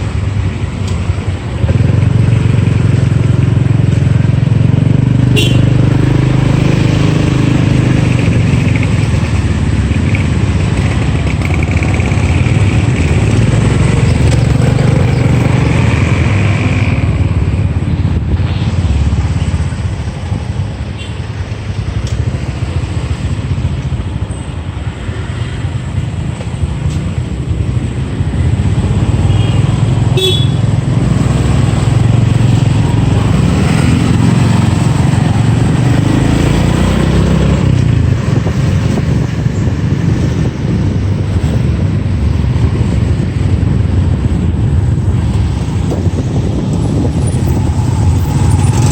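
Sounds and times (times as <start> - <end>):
motorcycle engine running: 0.0 - 21.1, 26.0 - 48.9
road and wind noise: 0.0 - 48.9.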